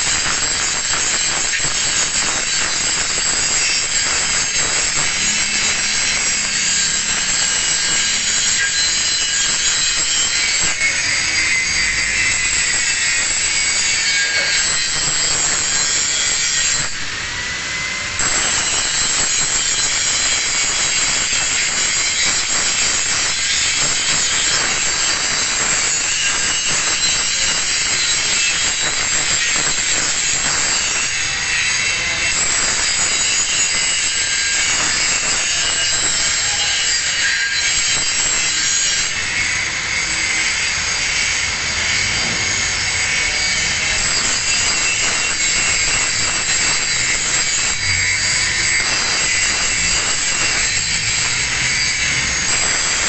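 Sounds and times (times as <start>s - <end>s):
angle grinder grinding steel: 0.0s - 53.0s.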